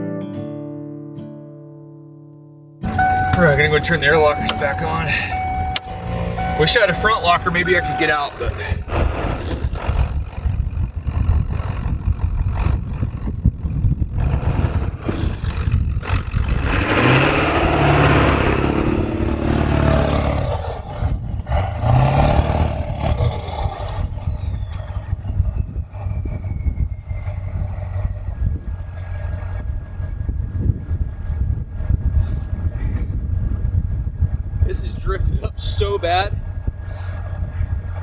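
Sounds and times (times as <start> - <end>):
diesel truck engine revving: 2.8 - 34.7.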